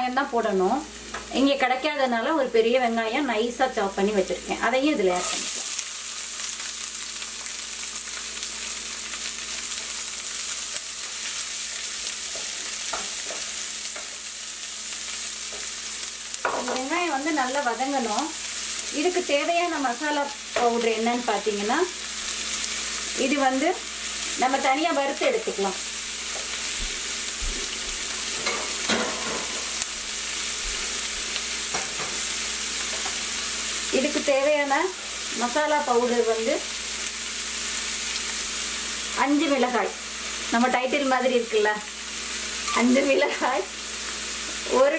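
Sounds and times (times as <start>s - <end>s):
onion sizzling in a pan: 0.0s - 44.9s.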